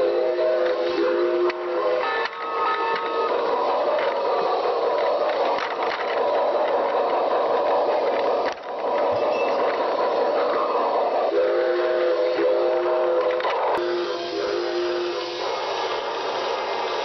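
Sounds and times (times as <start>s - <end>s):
train rattling: 0.0s - 17.0s.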